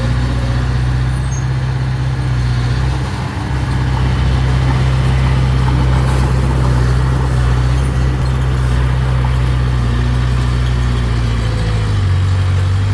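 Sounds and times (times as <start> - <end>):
diesel engine droning: 0.0 - 12.9.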